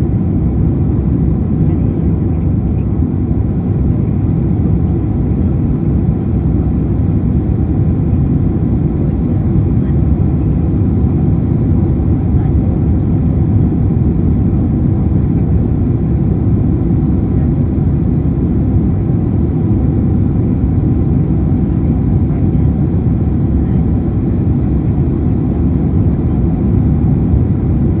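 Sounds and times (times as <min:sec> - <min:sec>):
jet engines rumbling in cabin: 0:00.0 - 0:28.0.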